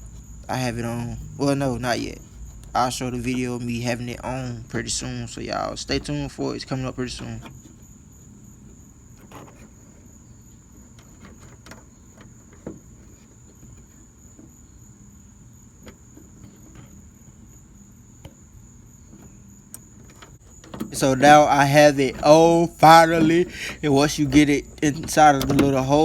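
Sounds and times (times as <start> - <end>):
faint high-pitched whine: 0.0 - 26.0.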